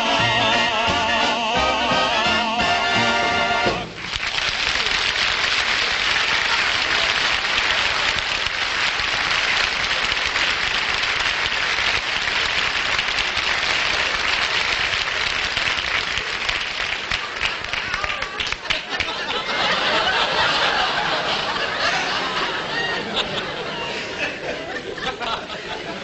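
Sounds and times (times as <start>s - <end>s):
audience applauding: 3.6s - 25.6s.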